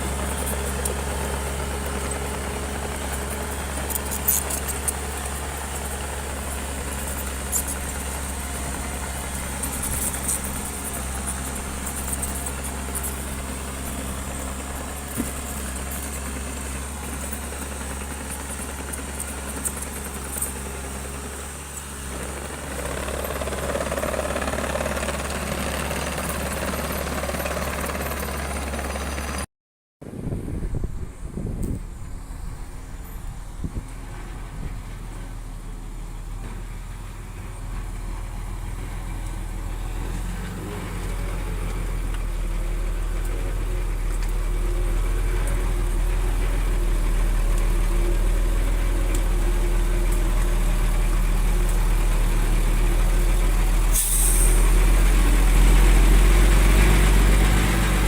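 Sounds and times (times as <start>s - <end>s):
heavy machine diesel engine running: 0.0s - 29.5s, 30.3s - 58.0s.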